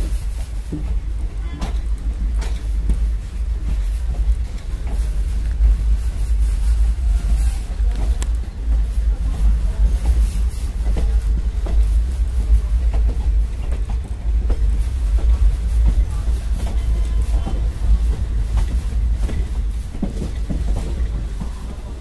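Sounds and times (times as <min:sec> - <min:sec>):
train wheels clacking over rail joints: 0:00.0 - 0:22.0
wind rumble on microphone: 0:00.0 - 0:22.0.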